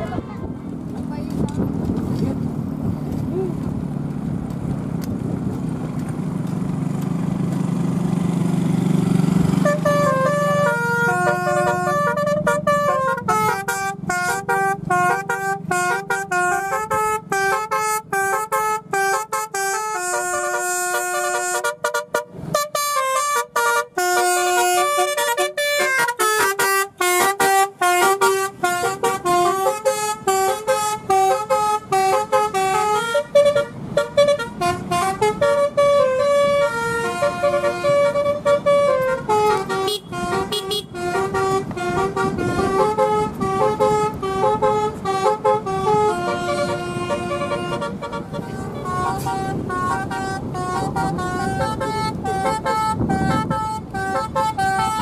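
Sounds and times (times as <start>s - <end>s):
multi-tone horn playing tune: 9.5s - 55.0s.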